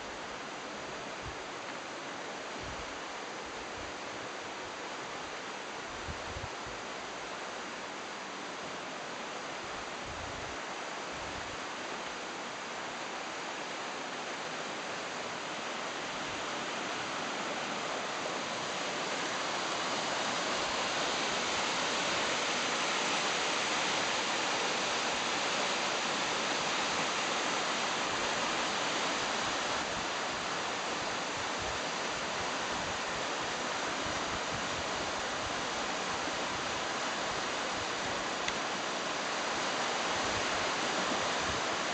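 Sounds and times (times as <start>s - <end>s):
river rushing over rapids: 0.0s - 41.9s.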